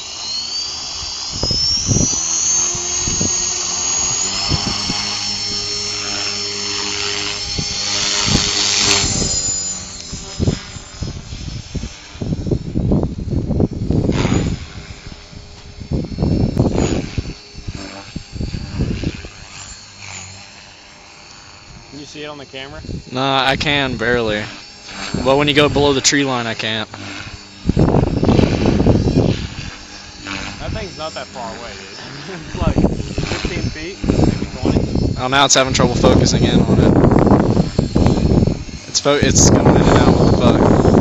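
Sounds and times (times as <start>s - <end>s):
rc helicopter motor whine: 0.0s - 41.0s.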